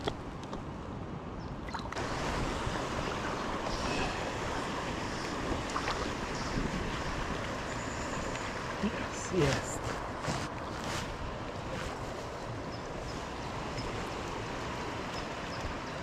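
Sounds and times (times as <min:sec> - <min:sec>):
small stream rushing: 0:01.6 - 0:16.0.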